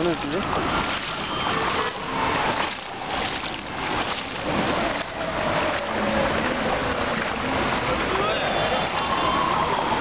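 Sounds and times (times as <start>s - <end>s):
water sloshing around wading legs: 0.0s - 10.0s.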